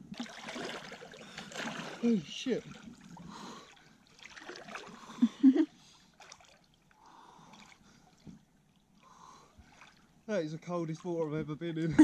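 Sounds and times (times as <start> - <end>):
swimming strokes splashing: 0.0 - 11.2.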